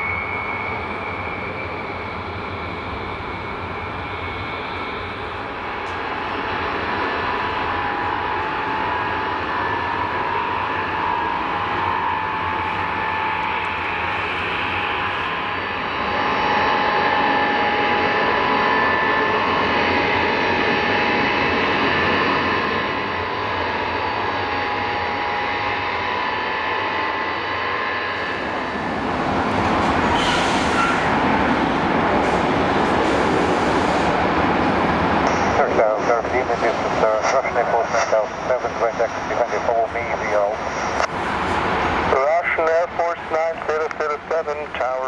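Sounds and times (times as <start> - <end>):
jet engines rushing and whining: 0.0 - 45.0.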